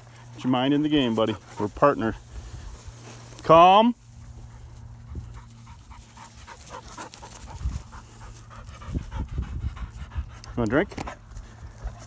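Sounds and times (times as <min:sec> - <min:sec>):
dog panting: 0:00.0 - 0:02.4, 0:04.2 - 0:12.0.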